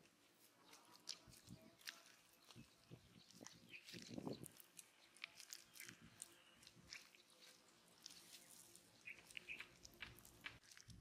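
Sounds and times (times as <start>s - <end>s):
wet mud squelching: 0.0s - 11.0s.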